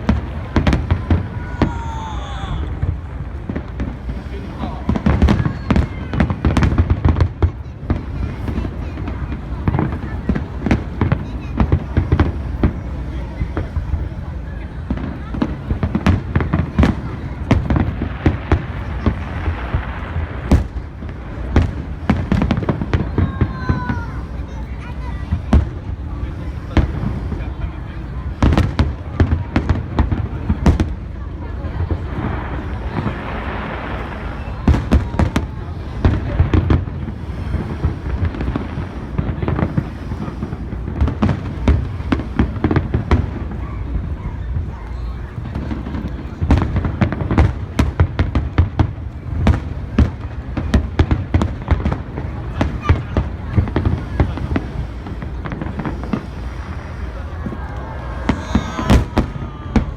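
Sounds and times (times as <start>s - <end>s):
continuous low rumble: 0.0s - 59.9s
firework bangs: 0.0s - 59.9s
firework crackle: 0.0s - 59.9s.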